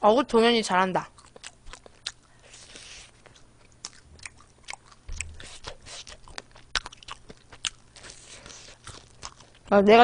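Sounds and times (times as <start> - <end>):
crunching crispy fried chicken: 1.2 - 9.7.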